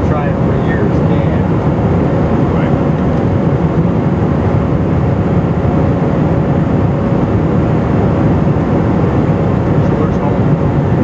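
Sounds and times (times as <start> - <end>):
aircraft engine and airflow noise: 0.0 - 11.0.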